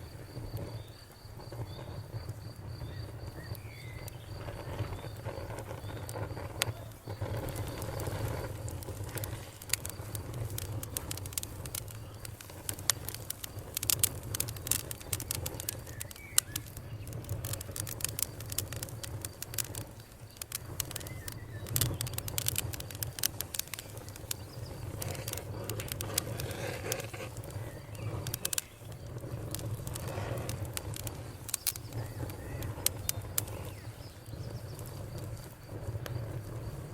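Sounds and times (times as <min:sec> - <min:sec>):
campfire crackling and popping: 0:00.0 - 0:36.9
low fire rumble: 0:00.0 - 0:36.9.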